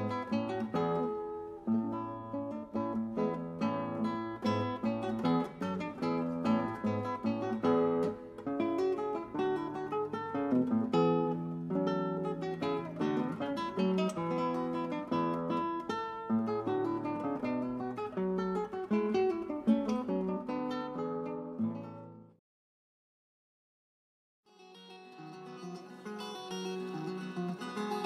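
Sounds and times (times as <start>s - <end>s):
acoustic guitar: 0.0s - 22.4s, 24.5s - 28.0s.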